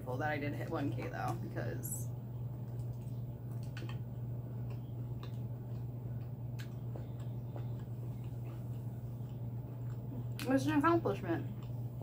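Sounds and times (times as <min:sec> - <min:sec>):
steady low hum: 0:00.0 - 0:12.0
chewing food: 0:00.6 - 0:12.0.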